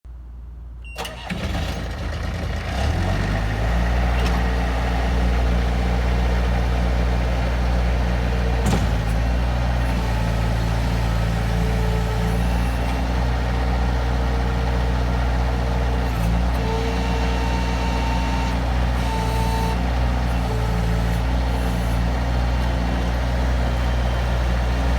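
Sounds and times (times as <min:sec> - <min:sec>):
diesel engine starting and idling: 0:00.9 - 0:24.9.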